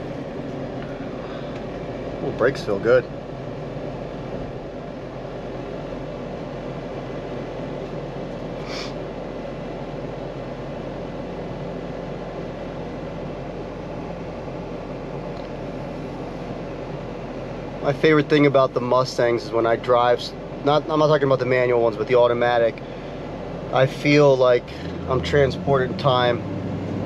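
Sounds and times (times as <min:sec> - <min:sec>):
car engine and road drone: 0:00.0 - 0:27.0.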